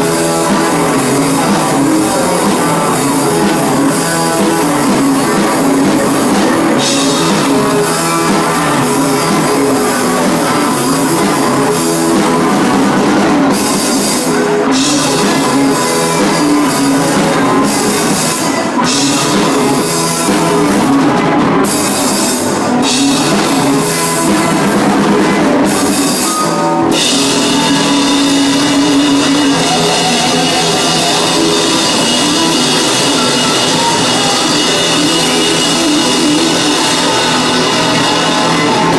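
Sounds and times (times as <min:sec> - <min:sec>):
drum kit: 0:00.0 - 0:38.9
electric guitars: 0:00.0 - 0:38.9
rock band playing live: 0:00.0 - 0:38.9.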